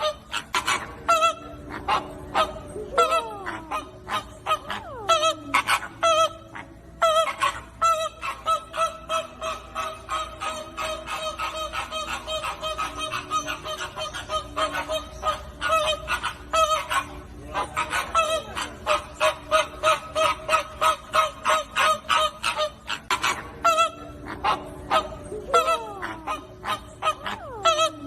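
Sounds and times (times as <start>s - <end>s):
flamingos honking: 0.0s - 28.0s.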